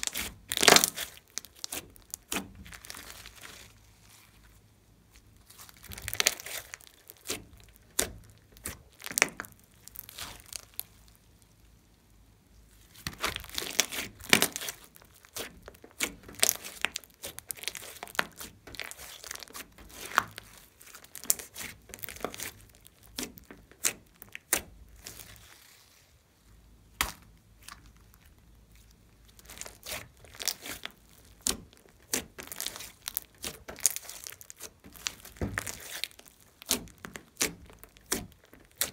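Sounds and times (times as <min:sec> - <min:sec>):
slime kneaded by hand: 0:00.0 - 0:11.9, 0:12.6 - 0:38.9.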